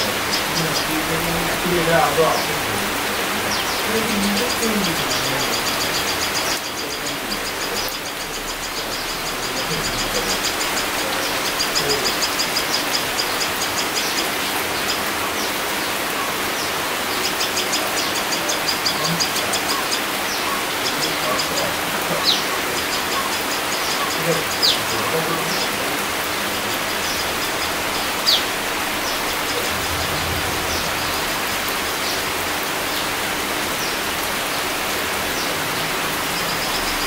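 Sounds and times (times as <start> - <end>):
rain falling on leaves: 0.0 - 37.0.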